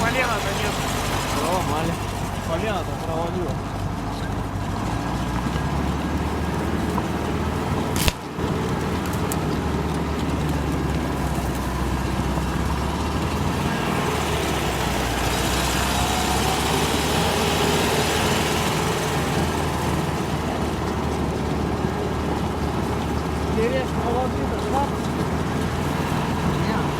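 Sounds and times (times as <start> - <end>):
vehicle engine running: 0.0 - 26.9.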